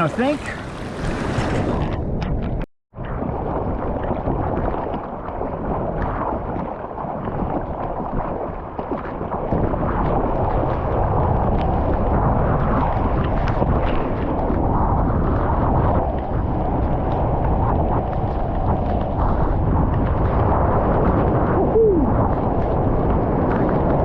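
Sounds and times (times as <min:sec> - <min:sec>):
churning seawater rumble: 0:00.0 - 0:24.0
wind on microphone: 0:00.0 - 0:24.0.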